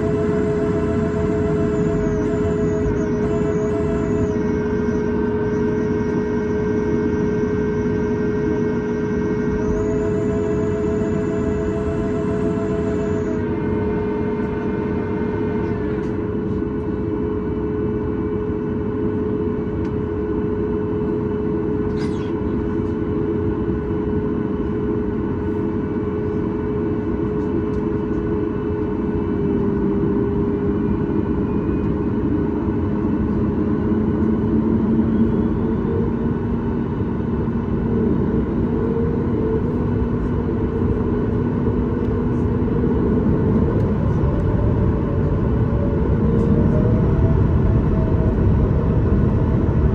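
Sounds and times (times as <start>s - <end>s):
jet engines rumbling in cabin: 0.0s - 49.9s.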